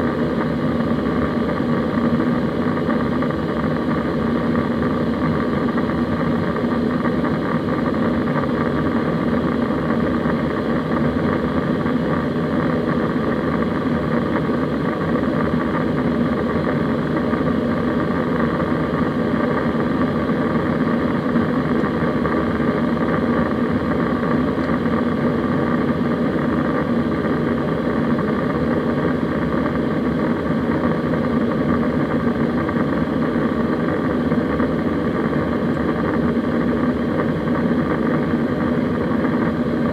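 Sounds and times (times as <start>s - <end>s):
aircraft cabin engine drone: 0.0s - 39.9s
steady hum tones: 0.0s - 39.9s.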